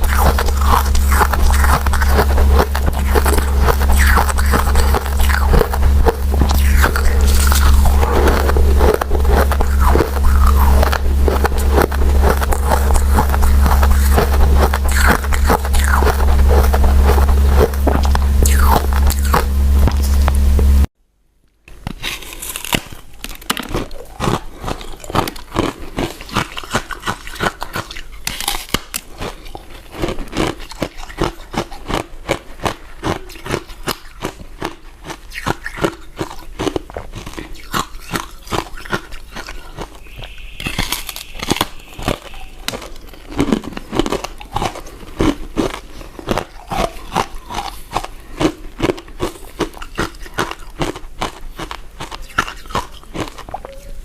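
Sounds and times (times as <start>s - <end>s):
person chewing with mouth clicks: 0.0s - 20.9s, 21.7s - 54.0s.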